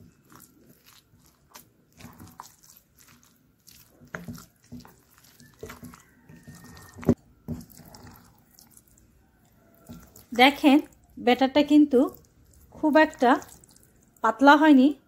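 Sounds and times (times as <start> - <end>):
spoon squelching in thick batter: 0.0 - 14.2.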